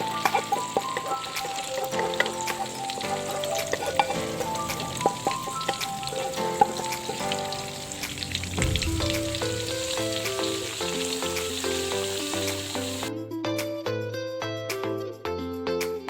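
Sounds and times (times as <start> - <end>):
food sizzling in hot oil: 0.0 - 13.1
stirring in a pan: 0.0 - 13.1
background music melody: 0.0 - 16.0.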